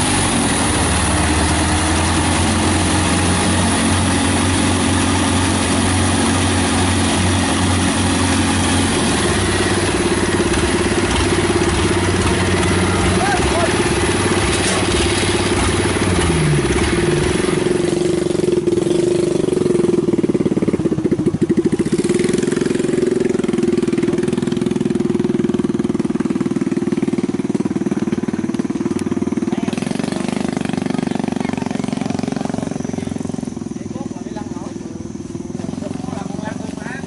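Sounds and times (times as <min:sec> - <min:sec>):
farm machine diesel engine running: 0:00.0 - 0:37.0.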